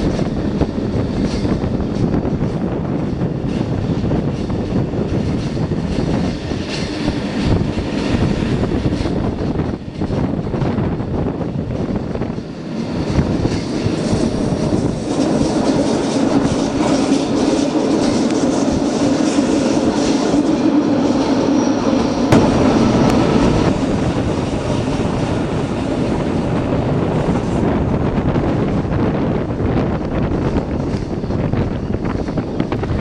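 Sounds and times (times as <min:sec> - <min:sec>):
train wheels rumbling: 0:00.0 - 0:33.0.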